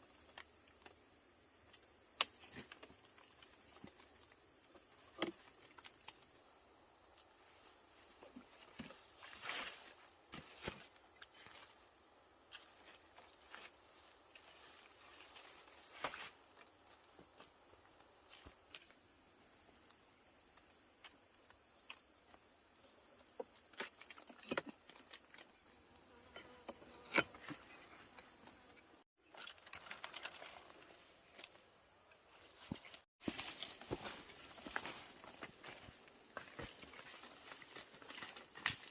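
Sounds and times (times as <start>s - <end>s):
insects chirping in a trill: 0.0s - 38.9s.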